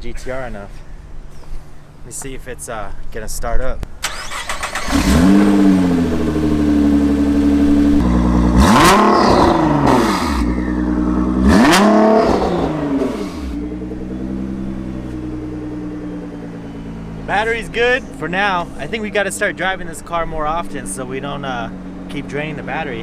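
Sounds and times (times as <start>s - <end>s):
car engine revving and idling: 4.0s - 23.0s.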